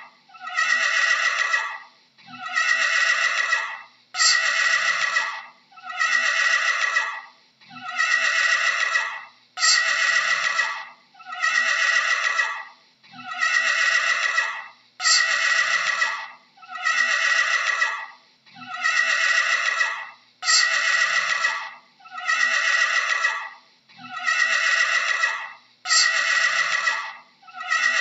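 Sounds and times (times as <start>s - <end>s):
horse whinnying: 0.4s - 1.8s, 2.4s - 7.2s, 7.8s - 28.0s.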